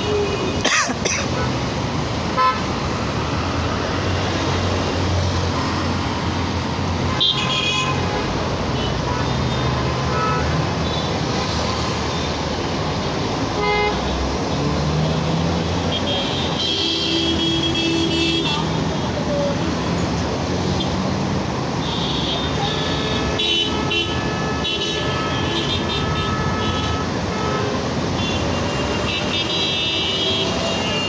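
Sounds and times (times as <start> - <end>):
road traffic engines and tyres: 0.0 - 31.0.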